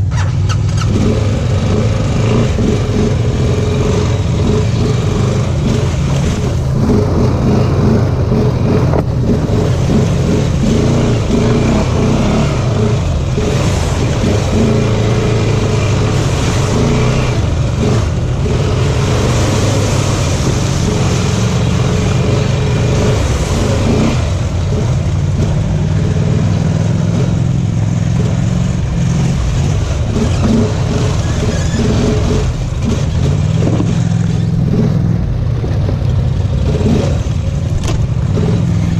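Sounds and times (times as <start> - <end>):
rumble and rattle of ride: 0.0 - 38.9
vehicle engine running under load: 0.0 - 38.9.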